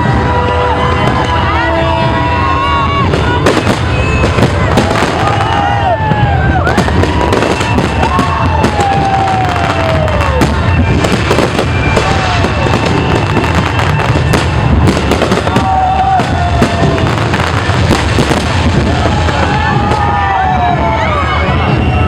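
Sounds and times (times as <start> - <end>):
fireworks bangs and crackles: 0.0 - 22.0
fireworks falling whistles: 0.0 - 22.0.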